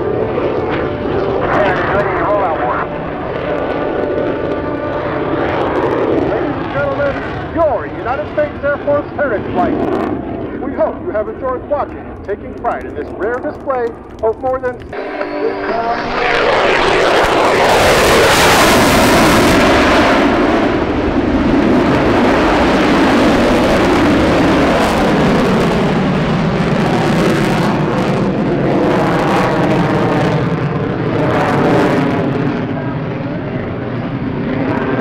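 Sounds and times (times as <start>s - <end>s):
crackling jet rumble: 0.0s - 35.0s
jet engine roar passing: 0.0s - 35.0s.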